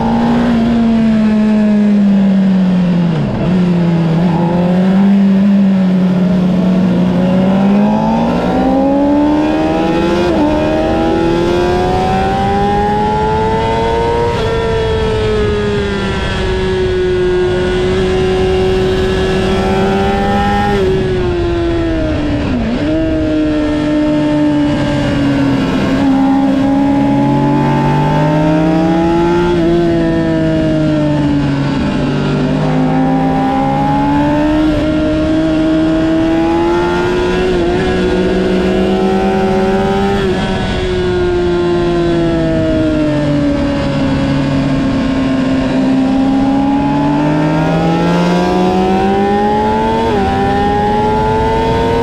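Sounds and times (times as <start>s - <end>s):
motorcycle engine at high revs: 0.0s - 52.0s.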